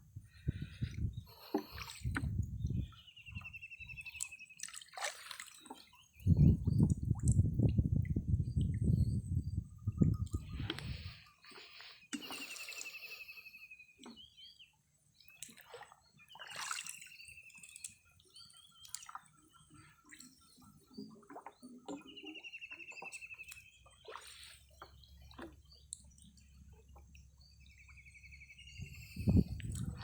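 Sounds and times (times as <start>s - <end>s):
shallow water sloshing and dripping: 0.0s - 30.0s.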